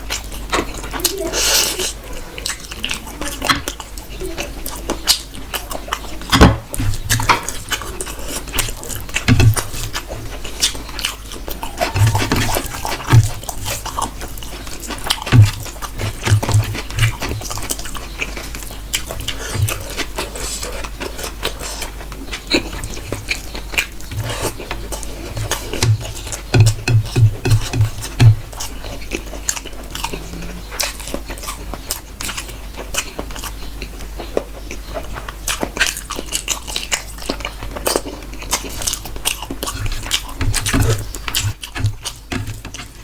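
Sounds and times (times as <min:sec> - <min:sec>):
person chewing and lip-smacking: 0:00.0 - 0:43.0.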